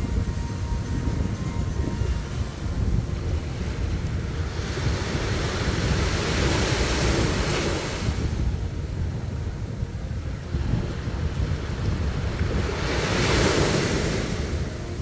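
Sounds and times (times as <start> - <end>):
waves breaking on beach: 0.0 - 15.0
wind rumbling on microphone: 0.0 - 15.0.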